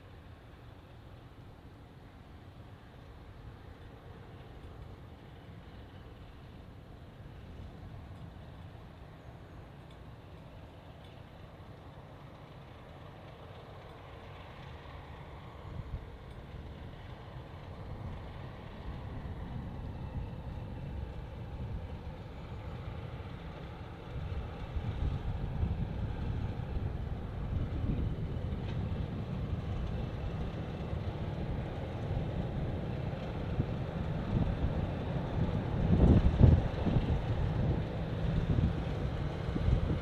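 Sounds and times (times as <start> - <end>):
diesel locomotive engine rumbling: 0.0 - 40.0.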